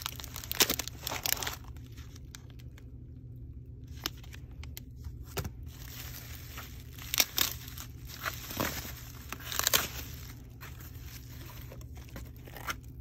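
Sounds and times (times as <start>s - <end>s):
bubble wrap crinkling and snapping: 0.0s - 3.0s, 3.8s - 13.0s
steady low hum: 0.0s - 13.0s.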